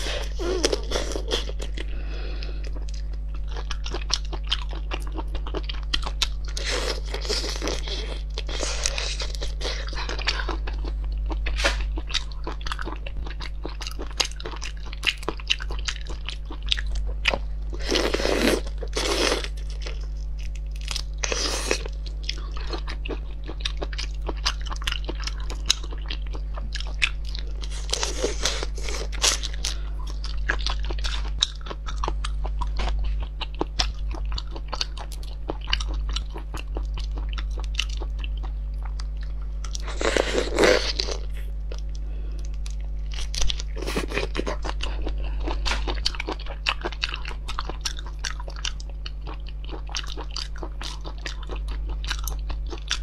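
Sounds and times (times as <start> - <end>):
shrimp shells peeled and chewed: 0.0 - 53.0
steady low hum: 0.0 - 53.0.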